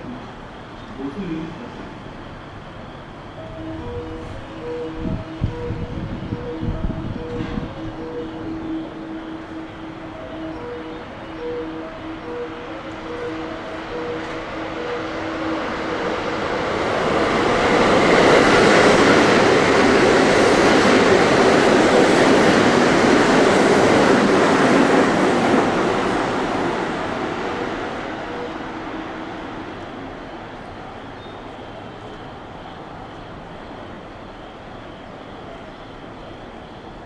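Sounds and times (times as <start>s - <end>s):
train wheels rushing on rails: 0.0s - 37.0s.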